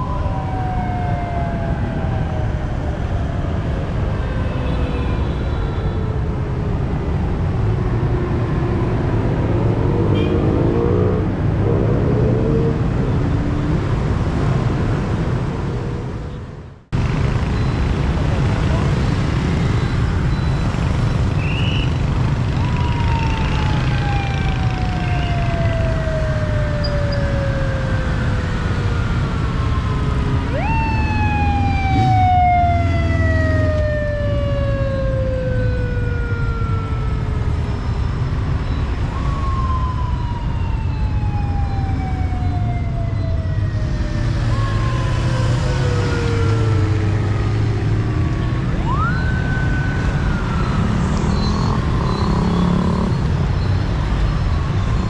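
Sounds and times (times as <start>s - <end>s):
police sirens wailing: 0.0s - 15.5s, 17.1s - 55.0s
motorbike and car traffic drone: 0.0s - 55.0s.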